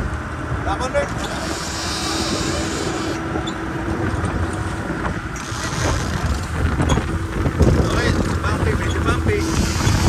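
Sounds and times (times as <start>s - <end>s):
speedboat engine drone: 0.0s - 10.0s
wind and water rushing: 0.0s - 10.0s
wind buffeting microphone: 0.0s - 10.0s.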